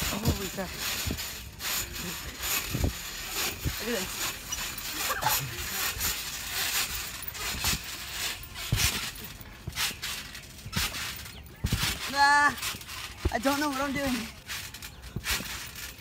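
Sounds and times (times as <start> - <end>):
bouncing on a trampoline: 0.0 - 16.0.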